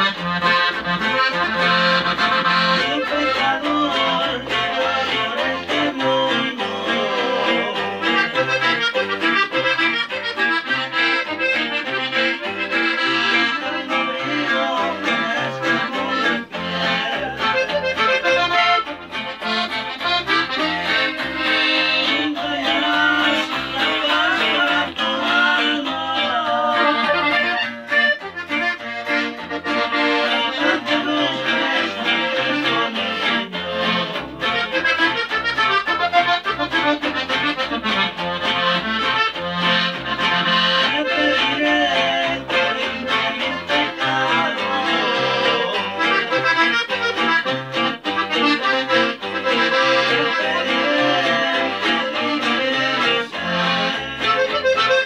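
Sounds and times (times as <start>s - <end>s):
button accordion melody: 0.0s - 55.0s
guitar: 0.0s - 55.0s.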